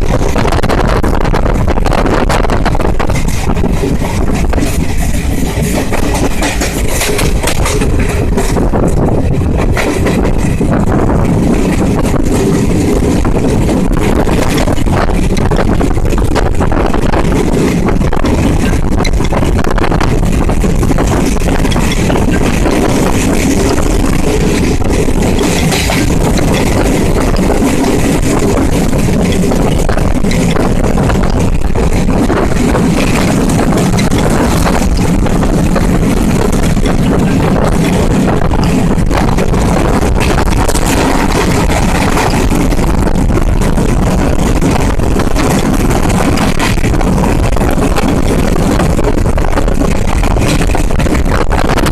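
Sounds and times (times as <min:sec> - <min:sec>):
small rattles: 0:00.0 - 0:51.9
train wheels rumbling on rails: 0:00.0 - 0:51.9.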